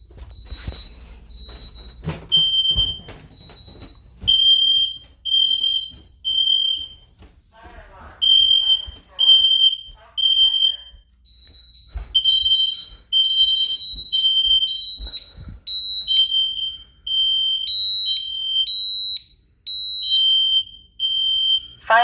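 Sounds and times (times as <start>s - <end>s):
smoke alarm beeping: 0.0s - 22.0s.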